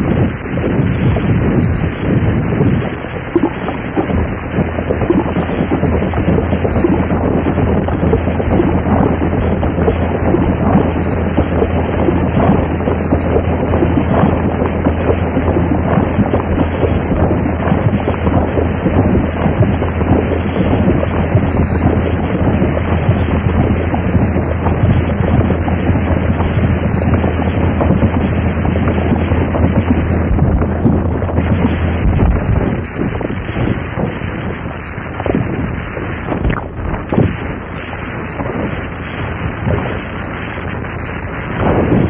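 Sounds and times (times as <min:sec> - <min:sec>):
crackling distortion noise music: 0:00.0 - 0:42.0
steady low hum: 0:00.0 - 0:42.0.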